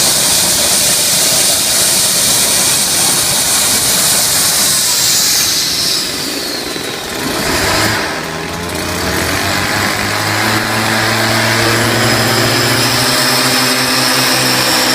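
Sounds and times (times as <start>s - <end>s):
jet engine turbine whine: 0.0s - 14.9s
steady machine hum: 0.0s - 14.9s.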